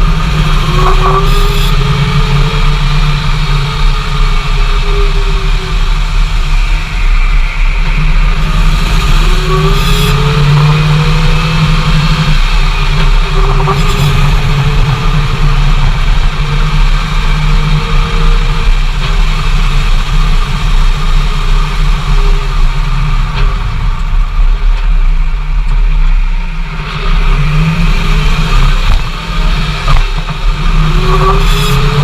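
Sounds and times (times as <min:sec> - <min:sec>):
engine drone with whine: 0:00.0 - 0:32.0.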